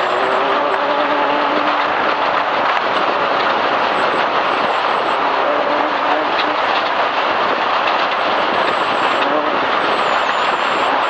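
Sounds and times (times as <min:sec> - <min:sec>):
rushing road and wind noise: 0:00.0 - 0:11.0.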